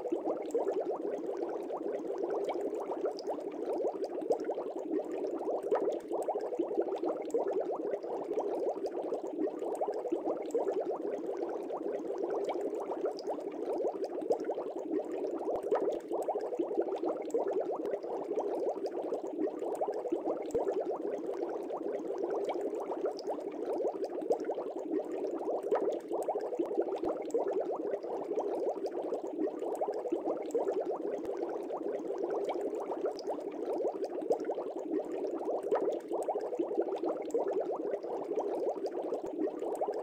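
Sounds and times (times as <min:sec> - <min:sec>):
water bubbling: 0:00.0 - 0:40.0.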